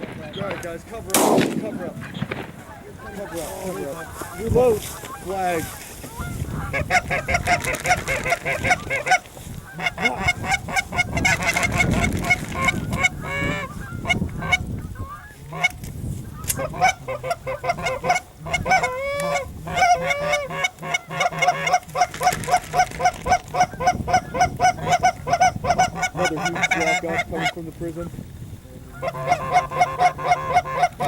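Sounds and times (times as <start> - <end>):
geese honking: 0.0 - 28.0, 28.8 - 31.0.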